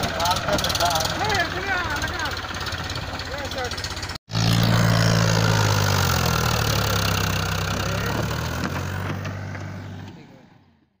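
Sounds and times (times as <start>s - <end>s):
tractor diesel engine idling: 0.0s - 10.3s.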